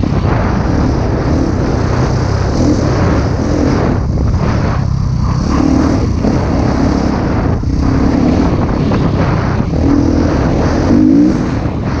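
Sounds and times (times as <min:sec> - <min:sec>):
constant rush of noise: 0:00.0 - 0:12.0
motocross bike engine revving: 0:00.0 - 0:12.0.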